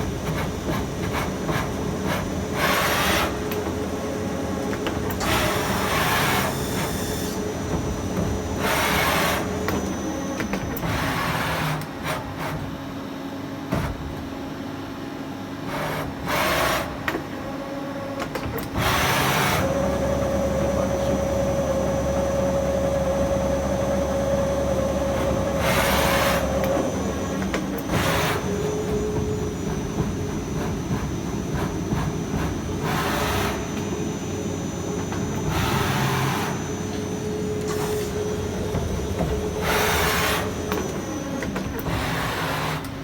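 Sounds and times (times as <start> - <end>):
lathe machine hum and whine: 0.0 - 13.7, 14.3 - 43.0.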